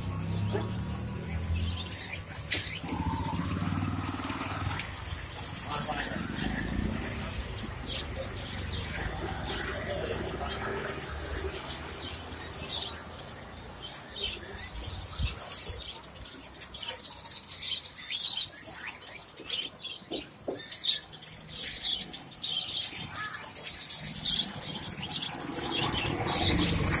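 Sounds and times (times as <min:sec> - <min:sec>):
birds chirping and chattering: 0:00.0 - 0:27.0.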